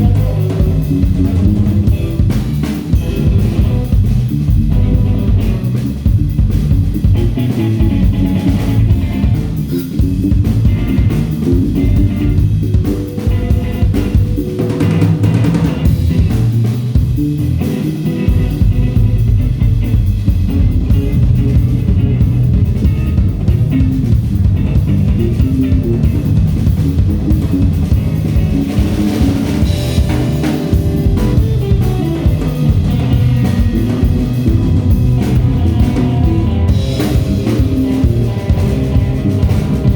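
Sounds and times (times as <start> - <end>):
drum kit steady beat: 0.0 - 39.9
guitar: 0.0 - 39.9.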